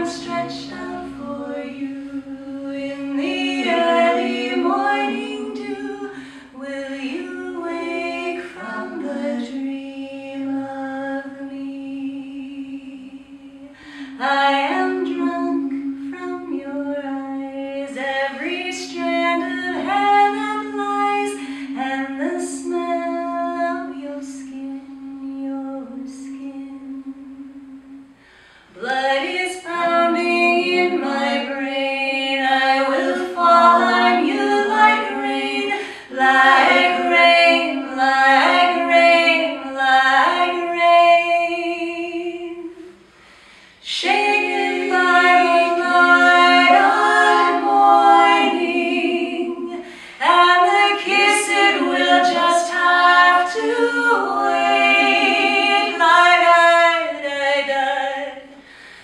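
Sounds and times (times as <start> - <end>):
women singing a cappella harmony: 0.0 - 59.0.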